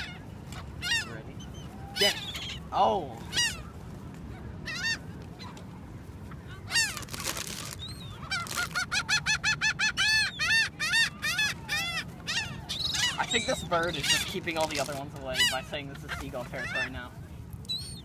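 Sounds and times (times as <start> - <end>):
seagulls calling: 0.0 - 18.0.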